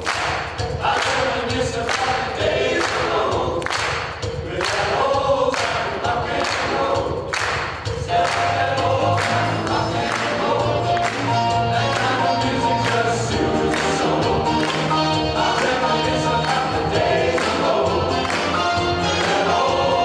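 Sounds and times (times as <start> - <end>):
choir singing a cappella: 0.6 - 20.0.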